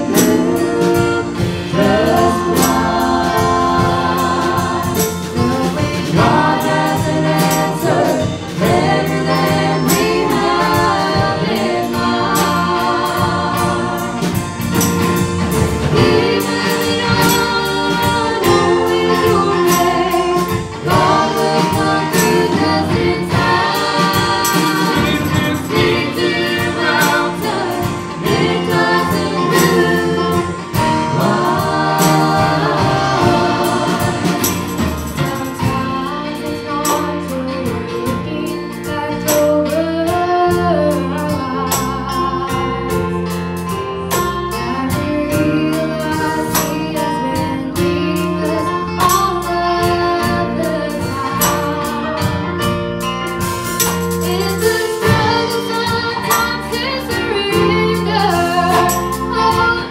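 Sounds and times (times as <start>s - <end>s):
live band playing: 0.0s - 59.9s
vocal group singing gospel: 0.0s - 59.9s.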